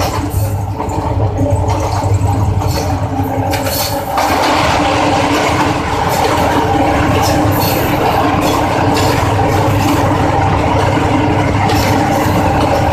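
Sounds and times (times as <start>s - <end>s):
diesel locomotive engine running: 0.0s - 12.9s
wheel-on-rail noise: 0.0s - 12.9s.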